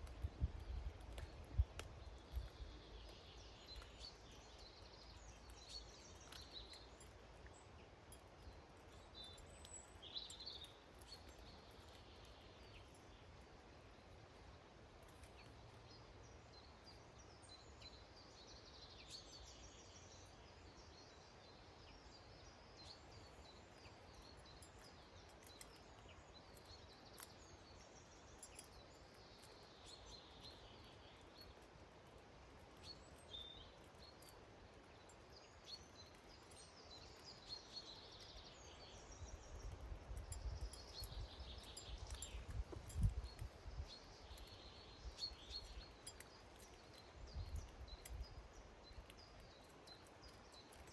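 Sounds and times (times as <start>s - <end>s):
songbirds twittering: 0.0s - 50.9s.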